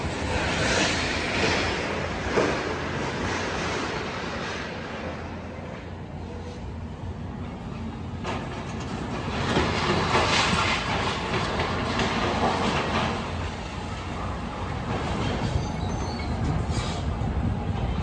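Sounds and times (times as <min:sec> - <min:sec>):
train rumbling and wheel clatter: 0:00.0 - 0:18.0.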